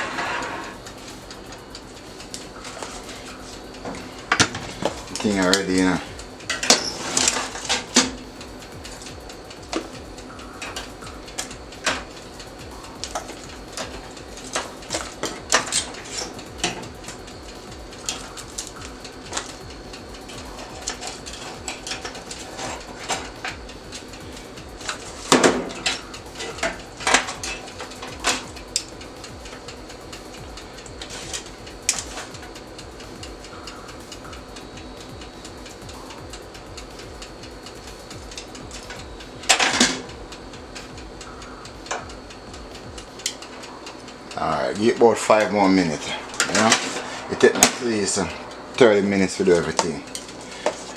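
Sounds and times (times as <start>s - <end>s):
low background hum: 0.0s - 50.9s
utensils and dishes clinking: 0.0s - 50.9s.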